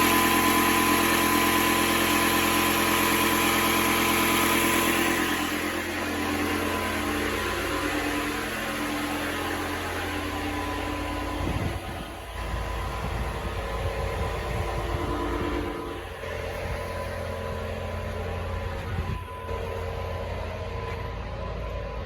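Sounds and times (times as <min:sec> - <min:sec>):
machinery engine-like hum: 0:00.0 - 0:22.0.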